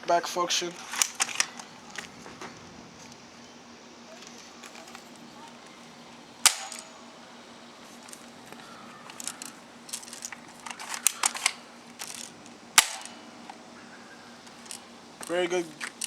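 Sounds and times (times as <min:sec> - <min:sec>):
plastic handling clicks and rattles: 0:00.7 - 0:03.5, 0:04.1 - 0:16.0
toy rifle mechanism snaps: 0:00.7 - 0:03.5, 0:04.1 - 0:16.0.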